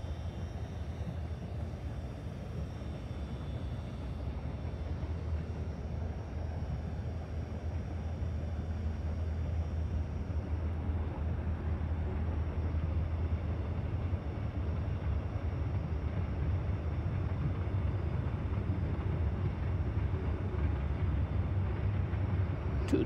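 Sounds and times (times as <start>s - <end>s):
train passing low rumble: 0.0s - 23.0s.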